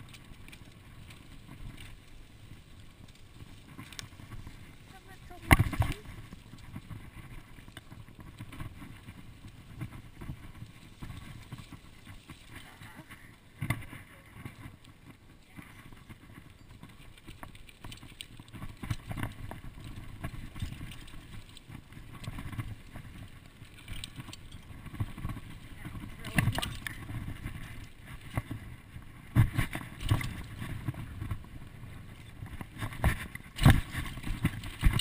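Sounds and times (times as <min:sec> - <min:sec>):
bike rattles and knocks: 0:00.0 - 0:35.0
bike tyres rumbling on dirt: 0:00.0 - 0:35.0.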